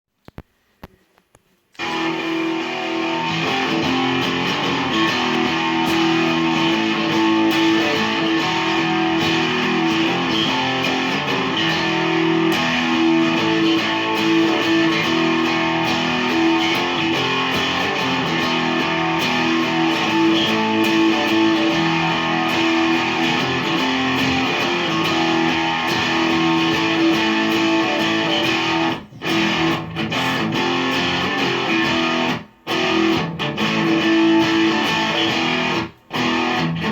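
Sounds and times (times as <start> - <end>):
electric guitar riff with effects: 1.8 - 36.9.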